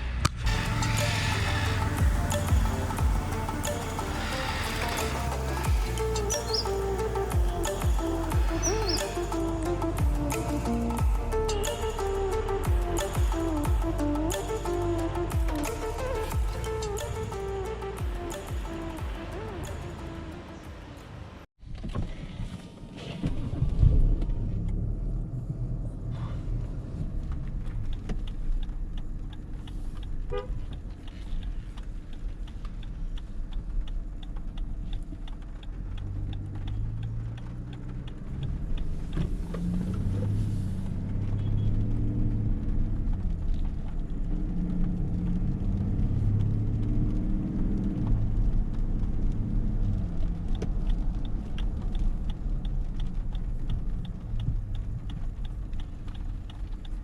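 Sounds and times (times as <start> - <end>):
diesel engine accelerating: 0.0 - 21.5, 23.4 - 57.0
low road rumble: 0.0 - 57.0.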